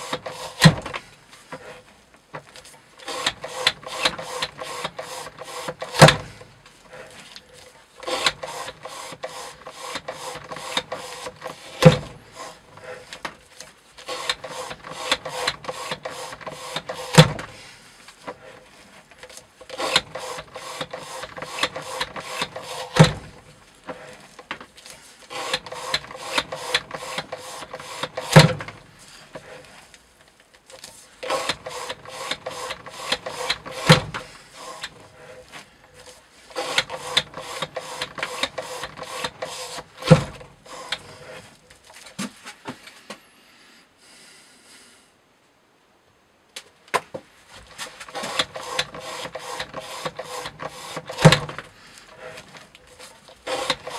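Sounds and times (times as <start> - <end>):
knife sawing through rope: 0.0 - 1.9, 3.0 - 29.9, 31.0 - 41.6, 47.7 - 53.9.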